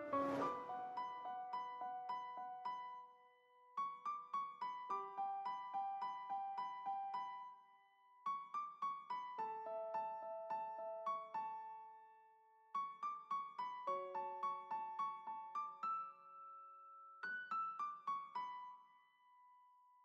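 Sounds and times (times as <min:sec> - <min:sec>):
piano gentle melody: 0:00.0 - 0:19.2.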